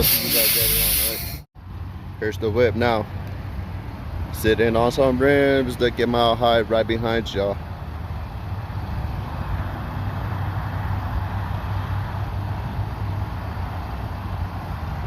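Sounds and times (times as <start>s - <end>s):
road noise rushing: 0.0s - 15.0s.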